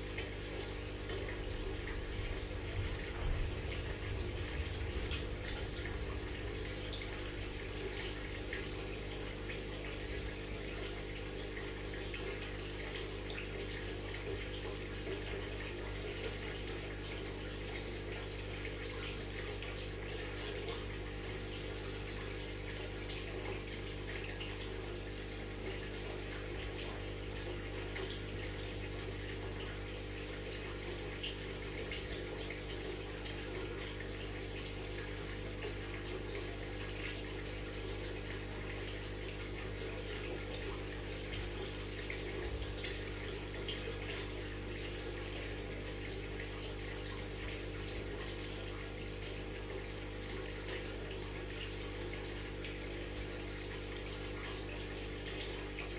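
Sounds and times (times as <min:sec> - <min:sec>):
filter pump hum: 0:00.0 - 0:55.9
water splashing and bubbling: 0:00.0 - 0:55.9.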